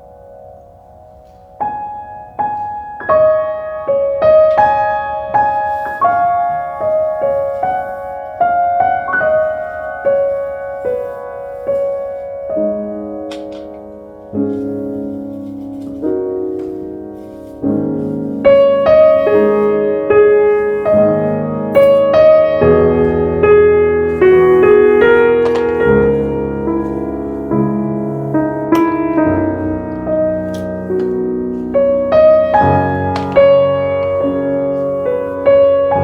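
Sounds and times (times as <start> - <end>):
slow gentle piano music: 0.0 - 36.0.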